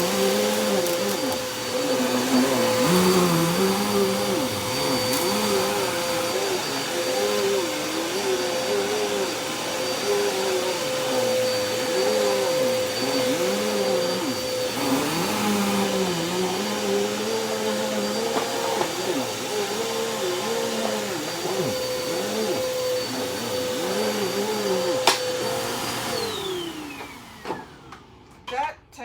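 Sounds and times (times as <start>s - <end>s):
vacuum cleaner running: 0.0s - 28.4s.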